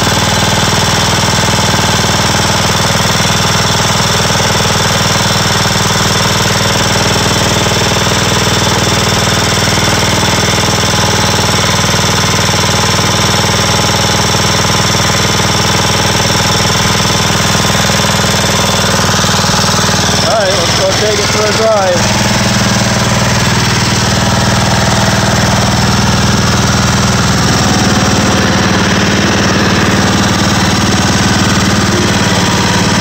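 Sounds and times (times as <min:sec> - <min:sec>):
riding mower engine running: 0:00.0 - 0:33.0.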